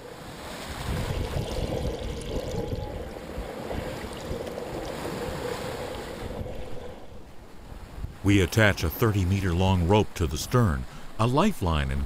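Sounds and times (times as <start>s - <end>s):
water rushing along boat hull: 0.0s - 11.9s.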